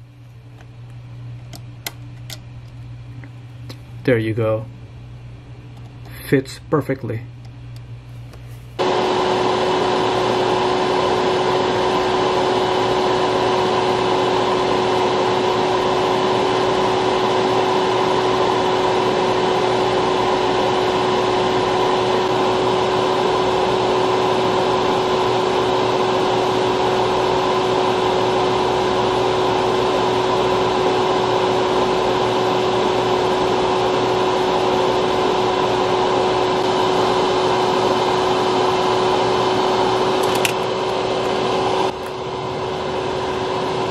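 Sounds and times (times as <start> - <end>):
electric fan motor running: 0.0 - 43.9.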